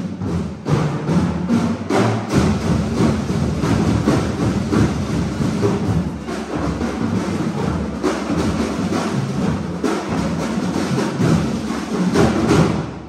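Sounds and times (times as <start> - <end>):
drum-heavy percussion music: 0.0 - 13.0.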